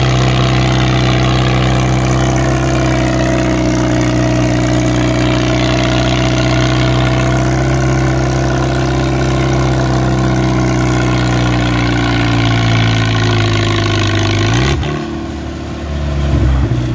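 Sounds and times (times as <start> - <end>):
tractor engine running under load: 0.0 - 16.9.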